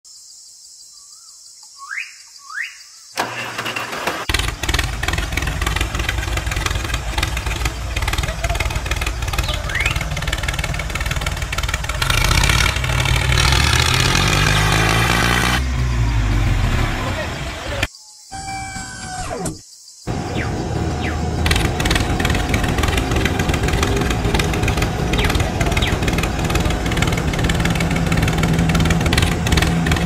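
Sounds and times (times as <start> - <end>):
loud engine running: 3.2 - 17.9, 20.1 - 30.0.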